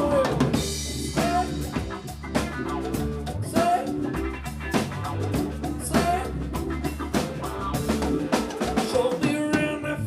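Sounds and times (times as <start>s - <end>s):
low bass line: 0.0s - 8.9s
drum kit: 0.0s - 10.0s
electric guitar: 0.0s - 10.0s
funk band playing: 0.0s - 10.0s.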